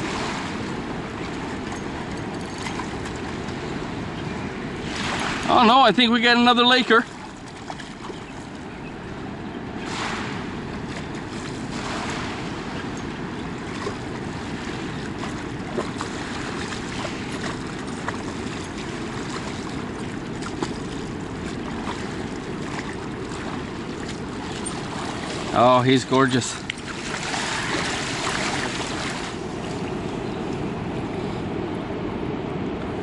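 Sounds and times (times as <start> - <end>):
wind on microphone: 0.0 - 6.0, 6.9 - 33.0
river water rushing: 0.0 - 33.0.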